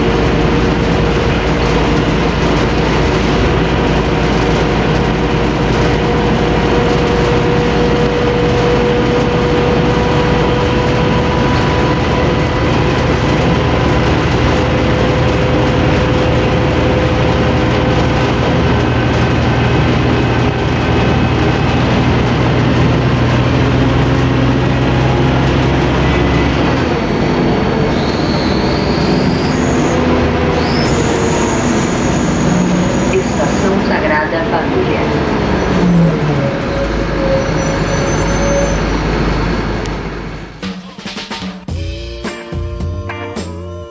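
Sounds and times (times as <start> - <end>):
bus engine growling: 0.0 - 43.9
steady whine: 0.0 - 43.9.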